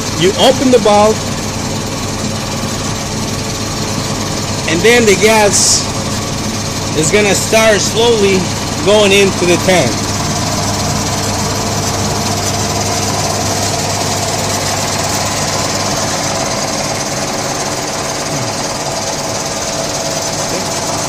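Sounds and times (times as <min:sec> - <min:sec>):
gas compressor running: 0:00.0 - 0:21.0.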